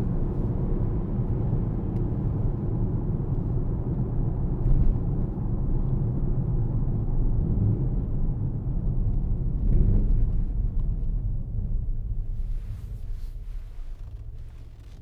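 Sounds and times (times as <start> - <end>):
car engine deep rumble: 0.0 - 15.0.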